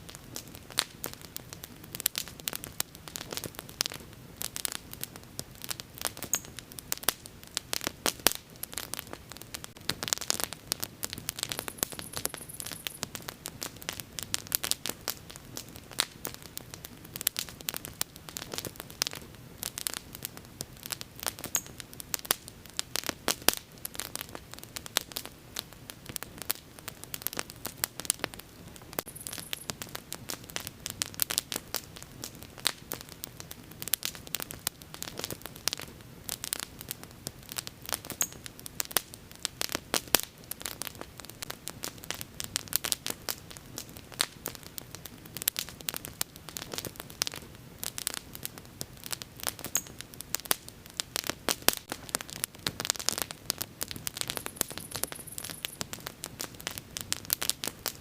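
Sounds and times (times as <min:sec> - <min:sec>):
faint low hiss: 0:00.0 - 0:58.0
wood fire crackling and popping: 0:00.0 - 0:58.0.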